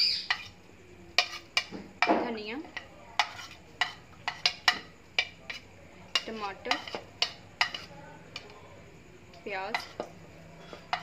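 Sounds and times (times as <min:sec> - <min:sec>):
spoon scraping and tapping plate: 0:00.3 - 0:00.6, 0:01.2 - 0:08.6, 0:09.7 - 0:11.0.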